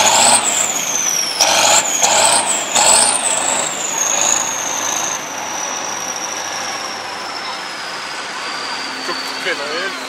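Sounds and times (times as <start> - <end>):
high whine: 0.0 - 10.0
tractor diesel engine working hard: 0.0 - 10.0.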